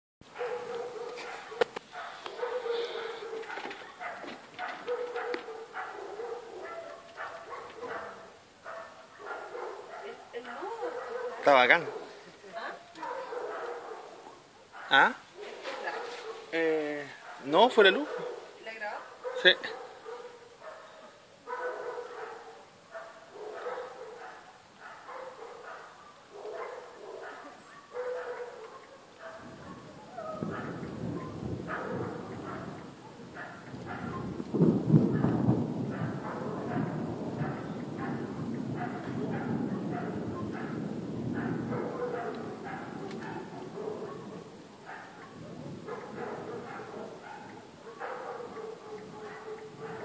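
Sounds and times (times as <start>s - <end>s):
dog barking: 0.2s - 50.0s.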